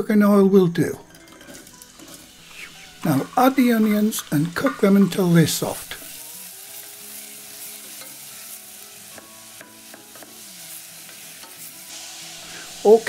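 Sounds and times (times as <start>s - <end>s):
onion sizzling in hot oil: 1.0s - 13.0s.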